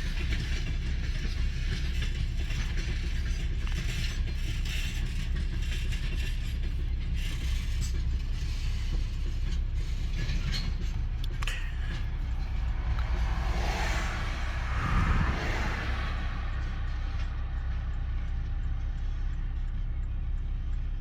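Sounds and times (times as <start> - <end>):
freight train rumbling: 0.0 - 21.0
wheels clicking and clanking: 0.0 - 21.0.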